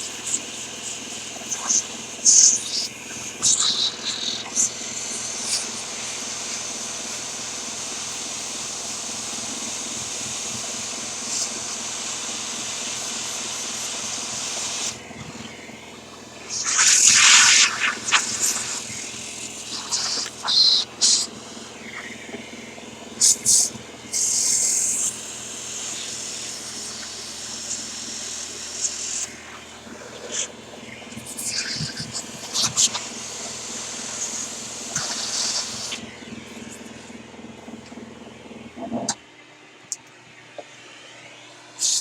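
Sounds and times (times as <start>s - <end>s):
vacuum running: 0.0s - 42.0s.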